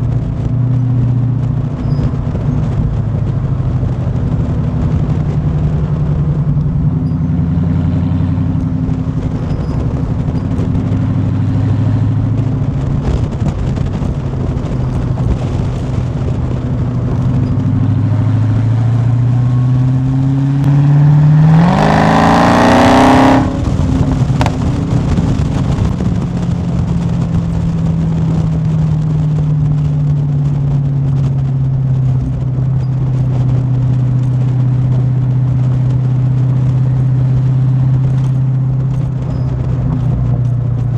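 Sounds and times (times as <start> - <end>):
car exhaust cruising and accelerating: 0.0 - 40.9.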